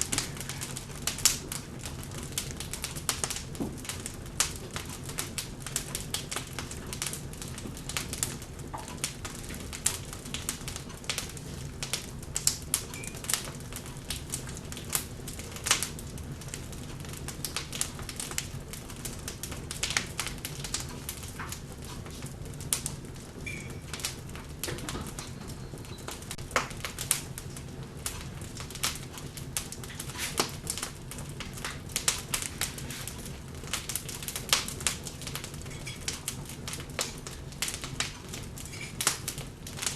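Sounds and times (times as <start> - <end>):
logs crackling in fireplace: 0.0 - 39.9
low rumble of flames: 0.0 - 39.9.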